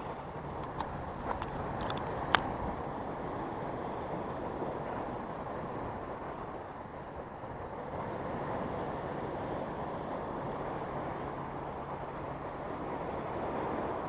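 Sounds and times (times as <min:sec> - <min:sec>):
surf breaking over rocks: 0:00.0 - 0:14.0.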